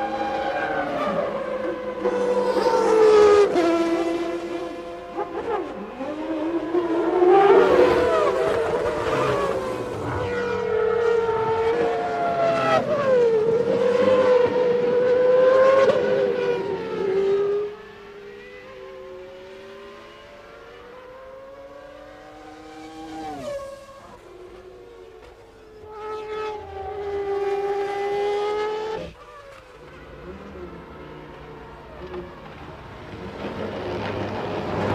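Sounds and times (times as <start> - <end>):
racing car engines at high revs: 0.0 - 34.9.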